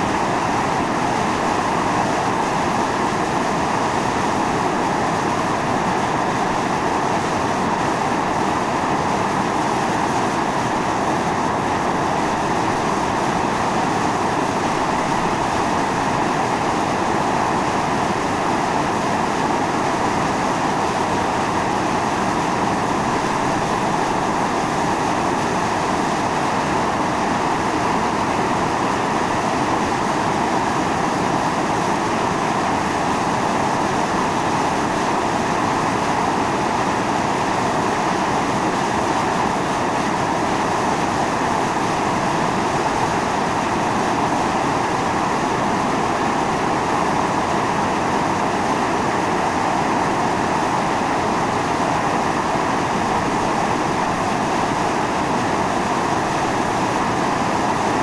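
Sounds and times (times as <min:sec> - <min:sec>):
fumarole venting steam: 0:00.0 - 0:58.0.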